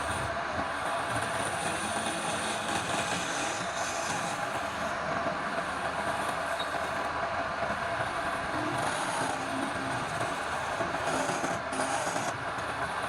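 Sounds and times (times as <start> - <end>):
wood lathe turning wood: 0.8 - 7.0, 8.0 - 13.0.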